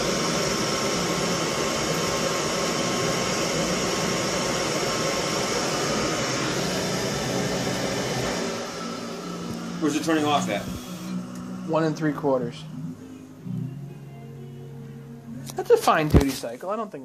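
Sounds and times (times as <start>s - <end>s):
boiler burner rushing: 0.0s - 14.0s, 14.8s - 16.8s.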